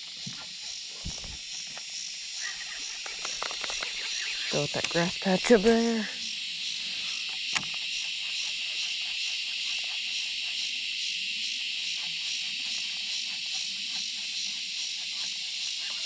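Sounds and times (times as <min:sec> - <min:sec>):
faint irregular ticks: 0:00.0 - 0:16.0
insects buzzing: 0:00.0 - 0:16.0.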